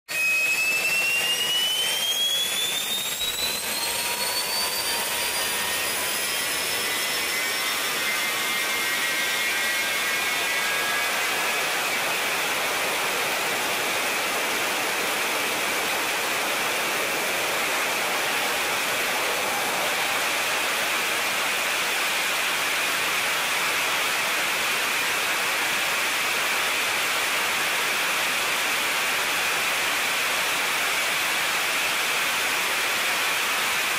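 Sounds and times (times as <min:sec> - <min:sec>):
jet engine whine and roar: 0:00.1 - 0:33.9.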